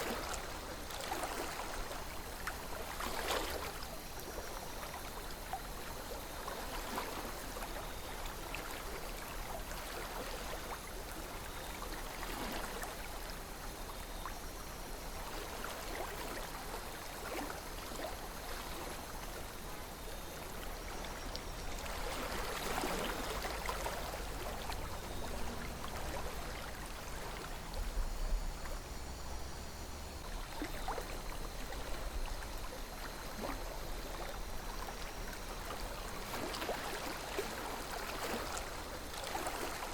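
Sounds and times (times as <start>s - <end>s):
river water flowing and gurgling: 0.0s - 39.9s.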